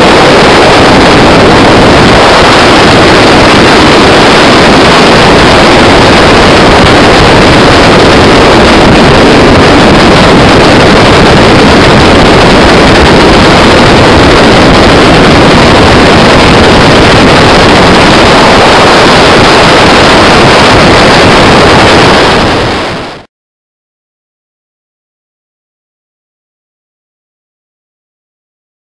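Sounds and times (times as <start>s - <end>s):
boat engine and water: 0.0s - 23.2s
wind on microphone: 0.0s - 23.3s.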